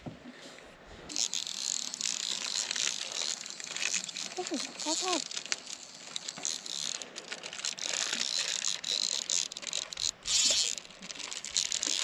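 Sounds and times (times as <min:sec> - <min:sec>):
fishing reel drag buzzing: 0:01.1 - 0:12.0.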